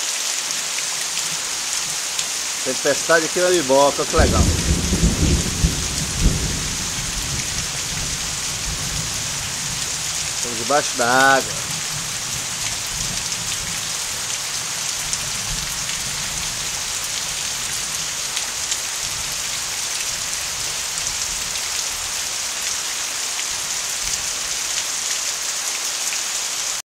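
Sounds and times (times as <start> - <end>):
heavy rain downpour: 0.0 - 26.8
raindrops ticking close by: 0.2 - 25.3.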